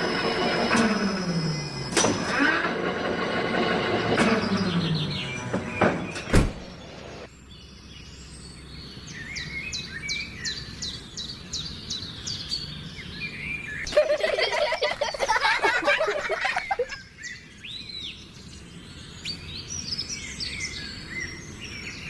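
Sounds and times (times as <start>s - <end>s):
birds chirping: 0.0s - 2.4s, 3.0s - 22.0s.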